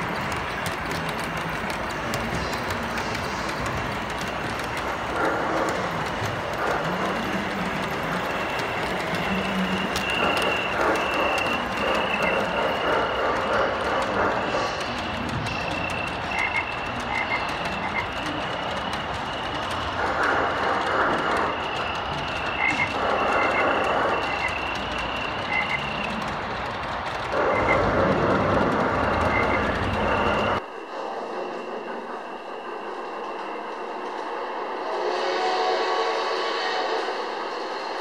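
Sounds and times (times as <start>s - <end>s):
paired track clicks: 0.0s - 30.6s
model train rumbling on track: 0.0s - 38.0s.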